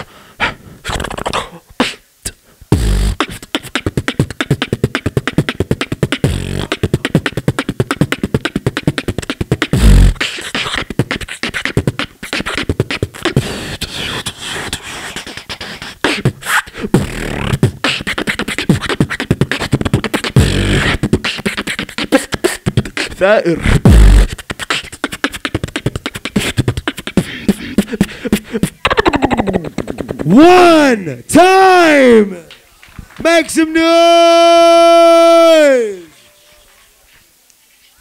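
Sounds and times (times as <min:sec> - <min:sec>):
beatboxing into microphone: 0:00.0 - 0:31.3.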